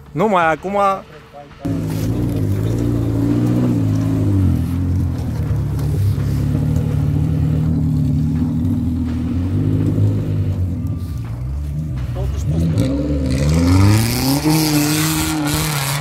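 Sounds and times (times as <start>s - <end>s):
off-road vehicle engine under load: 1.6s - 16.0s.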